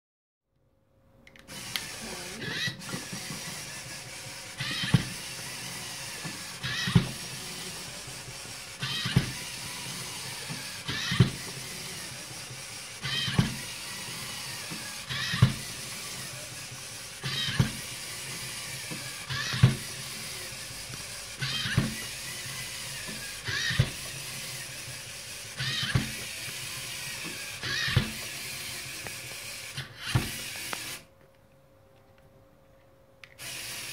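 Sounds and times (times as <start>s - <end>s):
robot motors and gears whirring: 1.5s - 31.1s, 33.4s - 33.9s.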